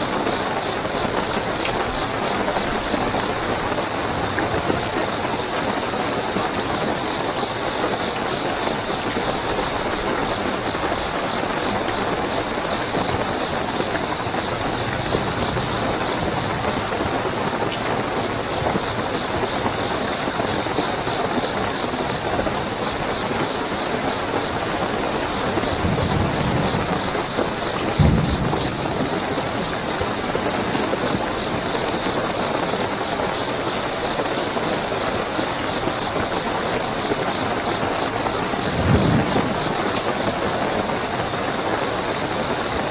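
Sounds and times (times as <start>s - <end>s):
crickets chirping: 0.0s - 42.9s
heavy rainfall: 0.0s - 42.9s.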